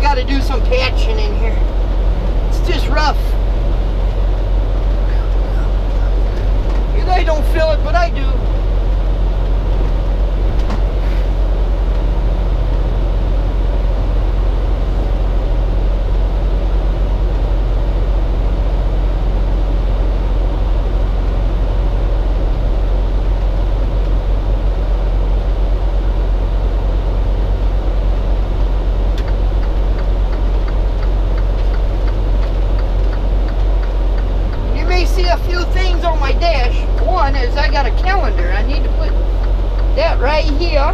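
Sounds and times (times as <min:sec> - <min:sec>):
diesel engine hum: 0:00.0 - 0:40.9
road and tyre noise: 0:00.0 - 0:40.9.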